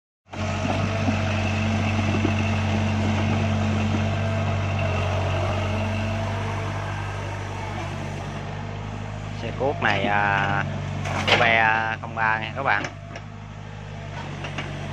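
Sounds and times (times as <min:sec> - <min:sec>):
excavator diesel engine running: 0:00.3 - 0:14.9.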